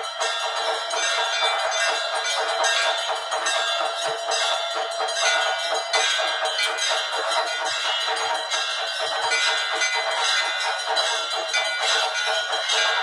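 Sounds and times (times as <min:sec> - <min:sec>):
temple bells ringing rapidly: 0:00.0 - 0:13.0.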